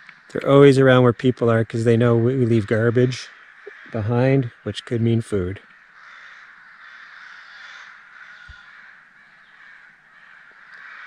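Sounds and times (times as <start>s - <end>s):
crows cawing: 0.0s - 1.0s, 2.0s - 11.0s.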